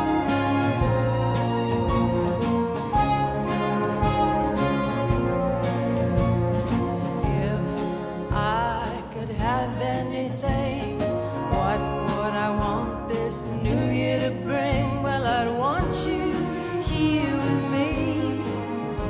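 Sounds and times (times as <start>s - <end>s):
orchestral pop ballad: 0.0s - 19.0s.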